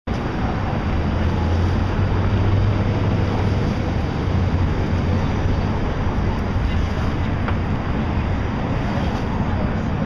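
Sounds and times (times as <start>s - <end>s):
low engine hum: 0.1s - 10.0s
rushing wind-like noise: 0.1s - 10.0s.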